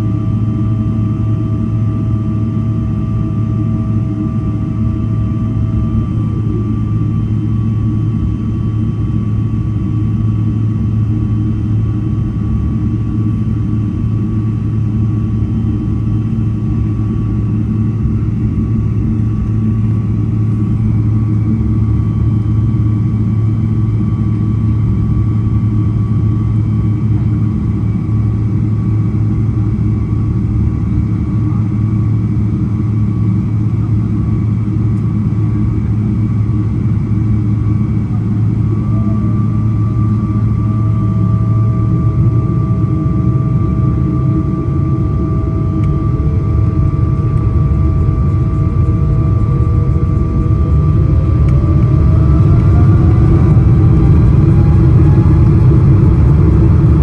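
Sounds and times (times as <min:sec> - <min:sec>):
jet engine rumble with whine: 0:00.0 - 0:57.0.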